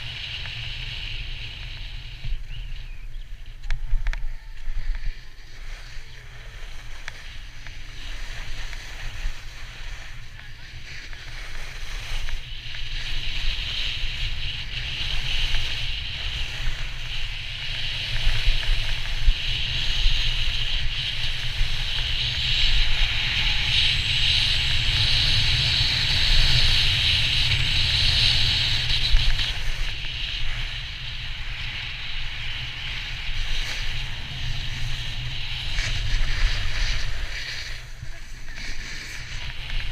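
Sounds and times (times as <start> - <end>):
skis hissing over snow: 0.0 - 3.6, 4.3 - 39.9
wind buffeting microphone: 0.0 - 39.9.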